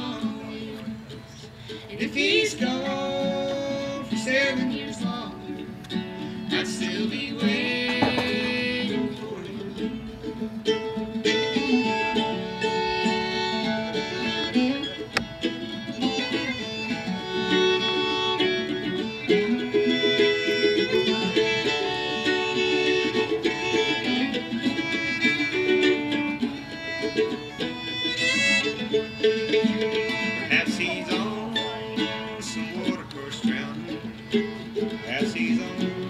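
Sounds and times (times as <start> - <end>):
acoustic guitar: 0.0 - 36.0
fiddle melody: 0.0 - 36.0
plucked mandolin: 0.0 - 36.0.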